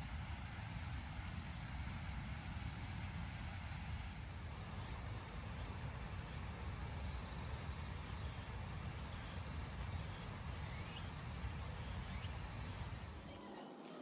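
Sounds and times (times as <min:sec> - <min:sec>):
crickets trilling: 0:00.5 - 0:13.4.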